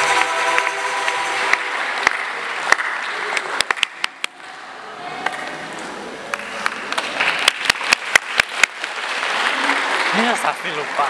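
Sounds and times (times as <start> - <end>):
audience applause in a hall: 0.0 - 4.5, 6.3 - 11.0.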